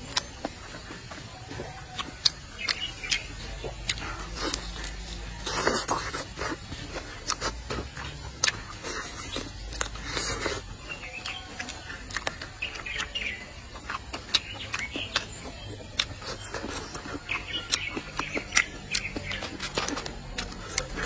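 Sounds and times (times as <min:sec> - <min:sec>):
chewing with wet mouth clicks: 0:00.0 - 0:21.0
faint bird chirping: 0:00.0 - 0:21.0.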